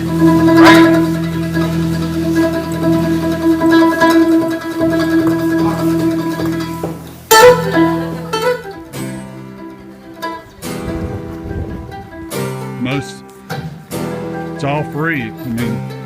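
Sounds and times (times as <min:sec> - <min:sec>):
plucked string background music: 0:00.0 - 0:16.0.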